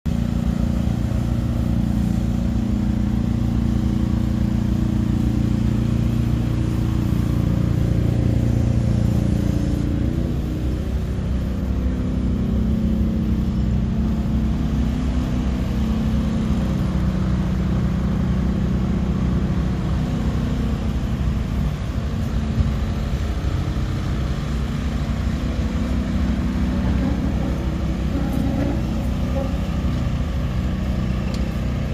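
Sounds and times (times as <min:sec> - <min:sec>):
diesel engine running steadily: 0:00.0 - 0:31.9.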